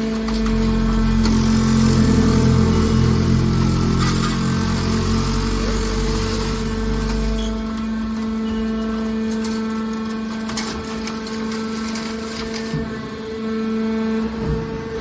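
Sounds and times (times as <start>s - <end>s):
hydraulic pump hum: 0.0s - 15.0s.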